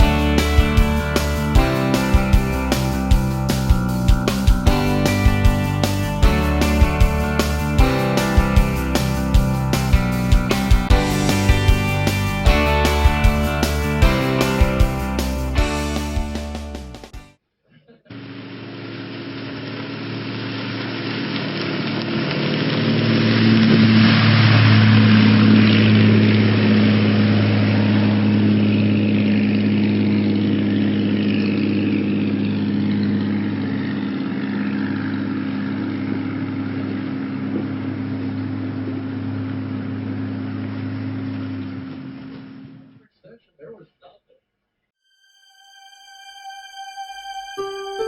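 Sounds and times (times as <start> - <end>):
motorboat engine running: 0.0 - 17.3, 18.1 - 42.9.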